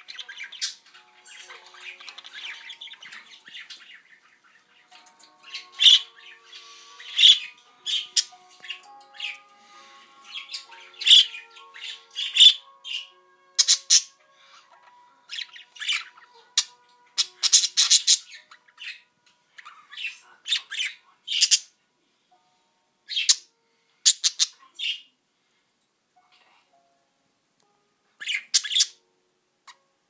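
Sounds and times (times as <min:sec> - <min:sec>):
budgerigars squawking and chirping: 0:00.0 - 0:21.8, 0:23.1 - 0:25.1, 0:28.2 - 0:29.0.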